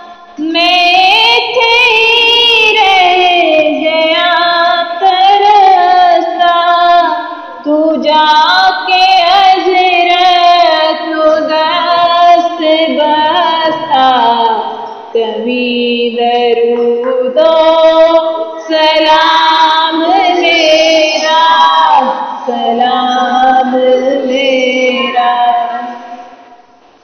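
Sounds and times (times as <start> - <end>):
woman singing a devotional song: 0.0 - 26.5.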